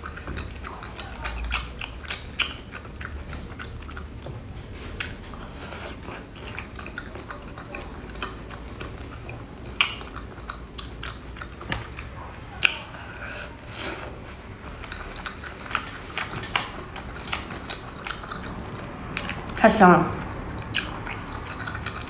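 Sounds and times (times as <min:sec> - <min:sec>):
close chewing and biting: 0:00.0 - 0:22.0.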